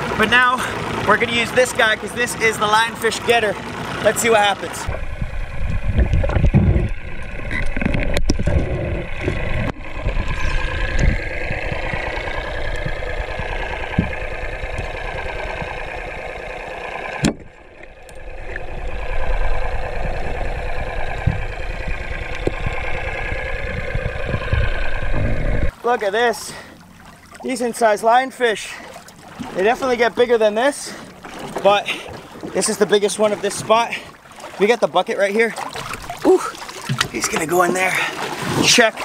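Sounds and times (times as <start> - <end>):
boat motor drone underwater: 0.0 - 39.0.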